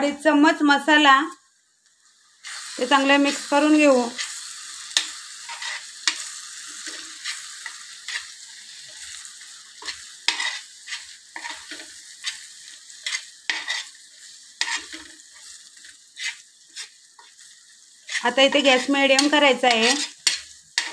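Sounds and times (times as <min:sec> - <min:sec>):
masala sizzling in oil: 0:00.2 - 0:20.9
metal spoon scraping a pan: 0:02.4 - 0:09.2, 0:09.8 - 0:20.9.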